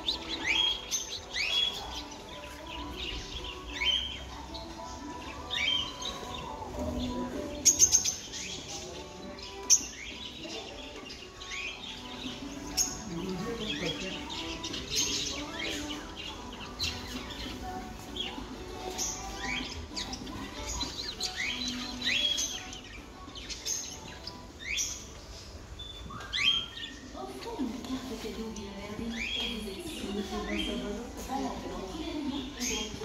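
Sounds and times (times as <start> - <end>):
cage birds chirping: 0.0 - 33.0.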